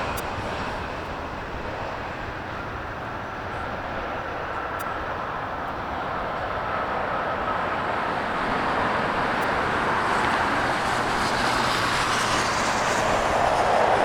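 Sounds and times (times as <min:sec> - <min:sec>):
jet airliner engine rushing: 0:00.0 - 0:14.0.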